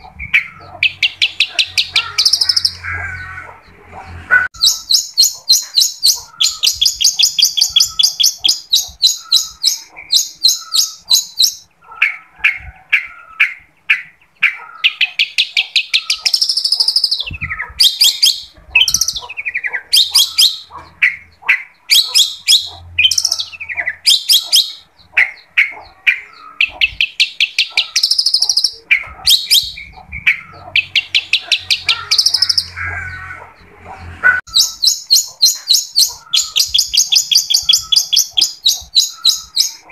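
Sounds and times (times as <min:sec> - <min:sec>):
shrike singing: 0:00.0 - 0:03.8, 0:04.5 - 0:12.2, 0:13.0 - 0:33.6, 0:34.4 - 0:39.9.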